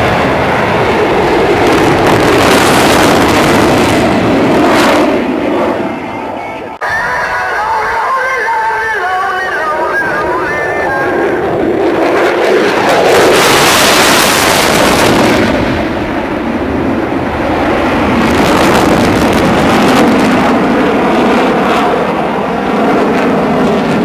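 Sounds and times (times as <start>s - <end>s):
jet flying past: 0.0s - 24.0s.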